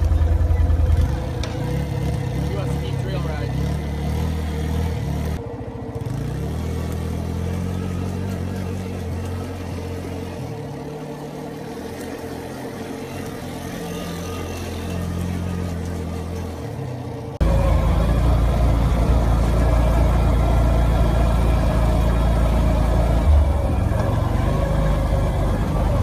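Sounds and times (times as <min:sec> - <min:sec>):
quad bike engine revving: 0:00.0 - 0:26.0.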